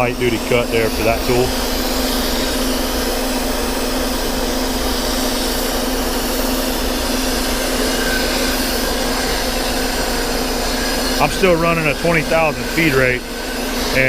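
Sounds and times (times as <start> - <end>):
constant low hum: 0.0 - 14.0
metal lathe cutting: 0.0 - 14.0.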